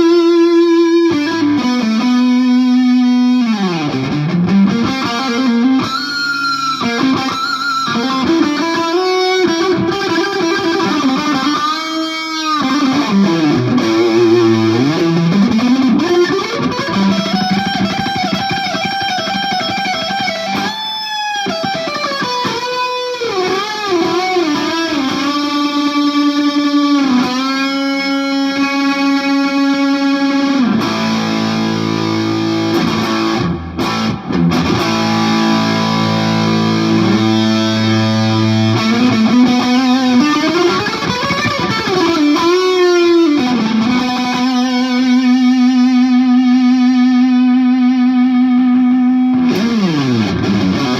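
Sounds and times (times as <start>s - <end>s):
overdriven electric guitar lead: 0.0s - 50.9s.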